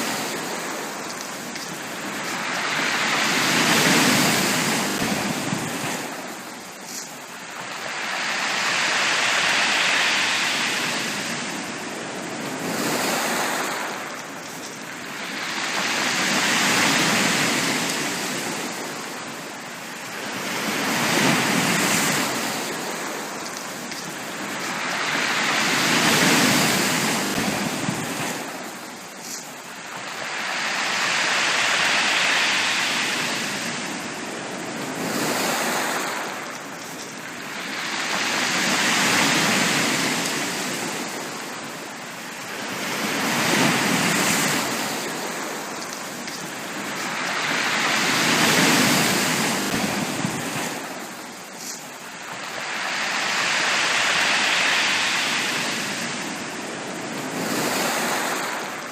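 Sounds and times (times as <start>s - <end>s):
sea waves breaking on a beach: 0.0s - 58.9s.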